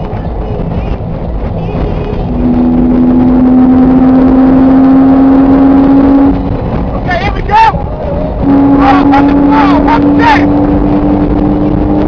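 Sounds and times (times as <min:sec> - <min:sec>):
car engine and road noise drone: 0:00.0 - 0:12.0.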